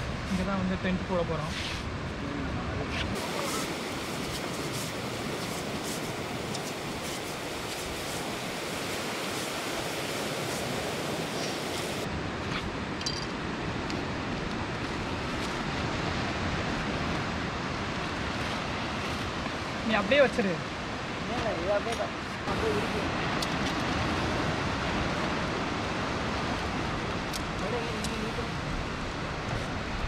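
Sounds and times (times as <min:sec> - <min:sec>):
surf washing onto beach: 0:00.0 - 0:30.0.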